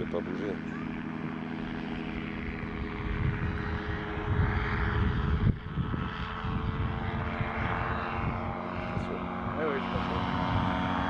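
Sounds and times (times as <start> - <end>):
propeller engine running: 0.0 - 11.0
wind buffeting microphone: 0.6 - 11.0.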